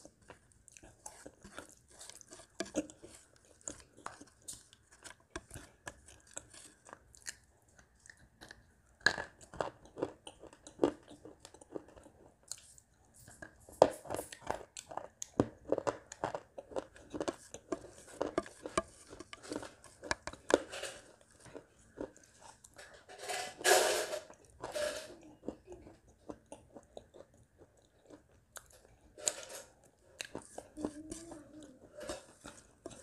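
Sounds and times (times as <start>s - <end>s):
crunching and chewing: 0.0s - 33.0s.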